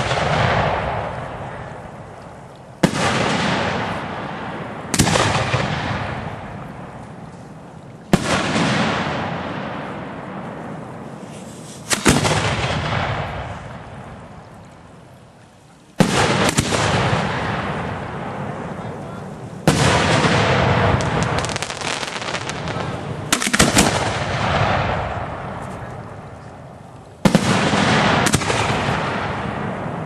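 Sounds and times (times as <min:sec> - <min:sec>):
fireworks bangs: 0:00.0 - 0:15.1, 0:16.0 - 0:30.0
rolling echo rumble: 0:00.0 - 0:30.0.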